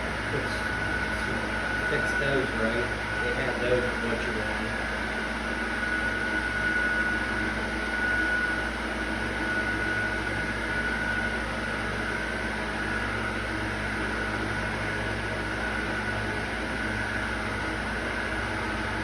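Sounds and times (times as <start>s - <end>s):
high wavering whine: 0.0s - 19.0s
machine hum: 0.0s - 19.0s.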